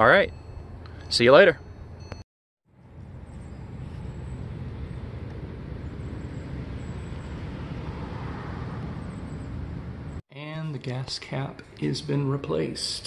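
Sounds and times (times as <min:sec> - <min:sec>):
distant road traffic rumble: 0:00.5 - 0:13.0.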